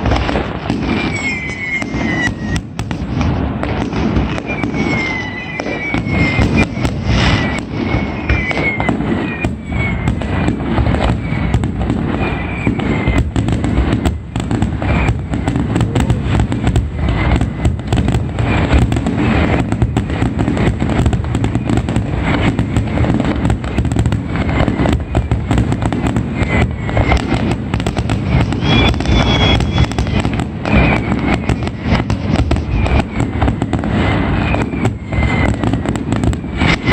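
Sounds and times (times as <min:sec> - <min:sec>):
firework whistles gliding down: 0:00.0 - 0:36.9
fireworks bangs and crackling: 0:00.0 - 0:36.9.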